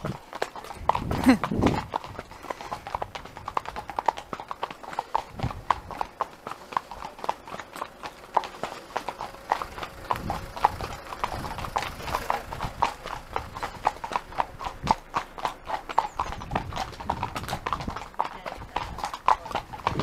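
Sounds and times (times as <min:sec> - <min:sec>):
horse hooves clip-clopping: 0:00.0 - 0:20.0.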